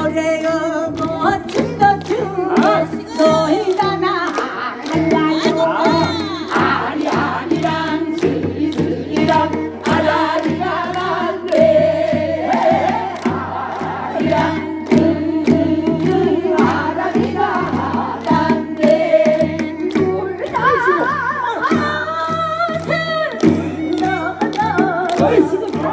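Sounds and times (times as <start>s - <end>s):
music with steady beat: 0.0s - 25.9s
people singing together: 0.0s - 25.9s.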